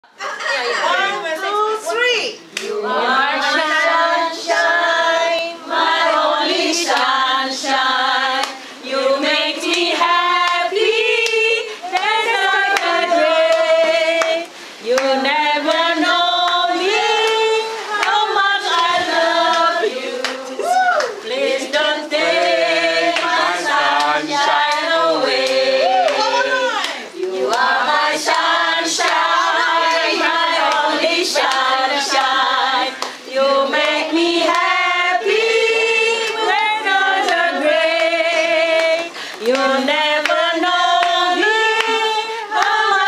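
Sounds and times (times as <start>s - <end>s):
group of people singing: 2.5s - 43.0s.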